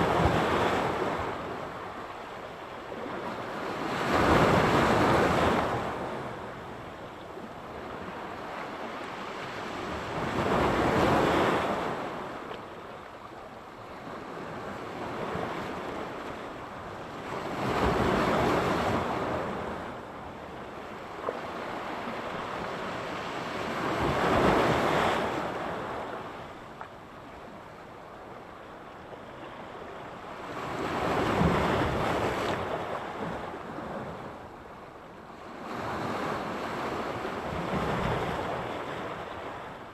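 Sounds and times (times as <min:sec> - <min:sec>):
waves breaking and washing back: 0:00.0 - 0:13.0, 0:13.8 - 0:39.9.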